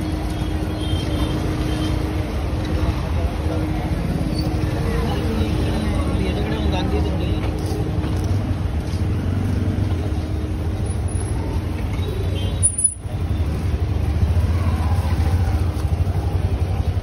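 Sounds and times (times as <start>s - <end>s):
market bustle: 0.0s - 17.0s
motor traffic rumble: 0.0s - 17.0s.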